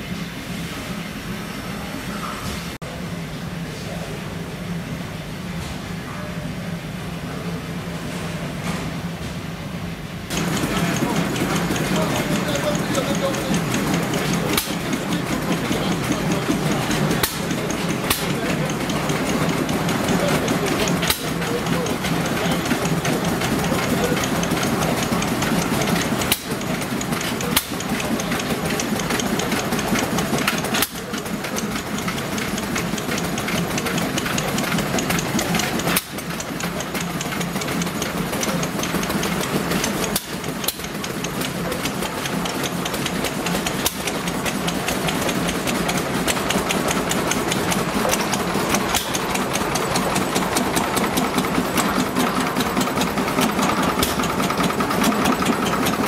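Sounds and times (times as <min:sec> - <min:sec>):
stationary engines chugging and clattering: 0:00.0 - 0:56.0.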